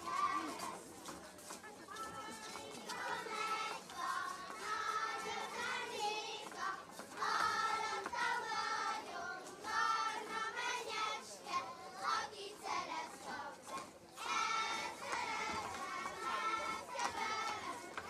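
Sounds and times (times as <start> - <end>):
children singing folk song: 0.0 - 18.0.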